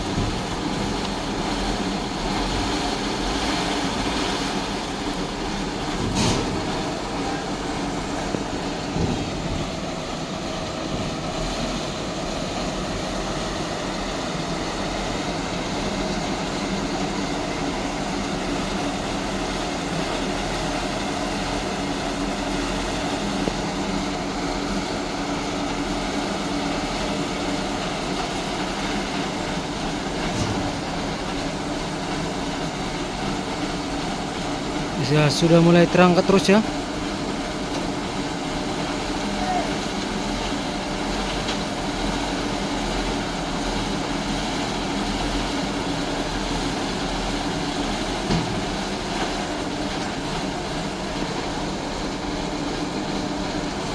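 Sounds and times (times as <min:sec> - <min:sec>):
heavy truck engines running: 0:00.0 - 0:53.9.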